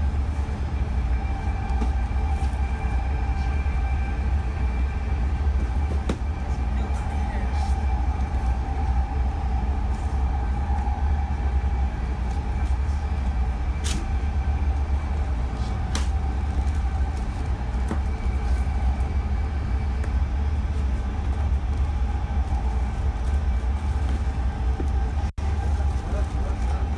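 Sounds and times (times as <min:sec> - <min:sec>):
steady whine: 0:00.0 - 0:26.9
train low rumble: 0:00.0 - 0:26.9.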